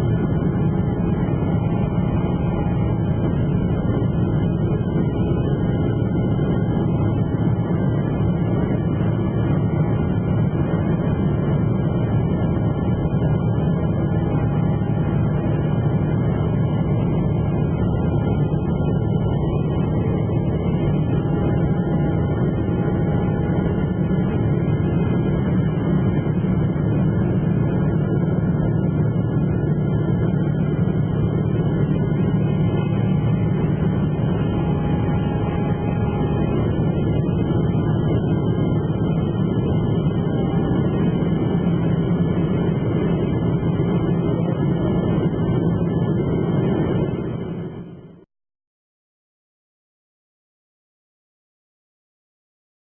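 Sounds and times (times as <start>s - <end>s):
airliner cabin engine rumble: 0.0s - 48.2s.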